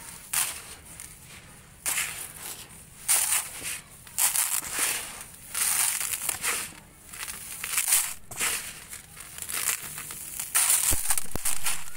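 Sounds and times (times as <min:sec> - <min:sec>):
sand and cement pouring: 0:00.0 - 0:11.9.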